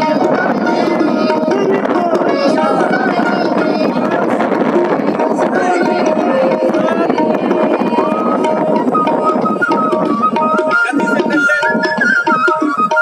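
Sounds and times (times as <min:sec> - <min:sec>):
tabla drumming: 0:00.0 - 0:13.0.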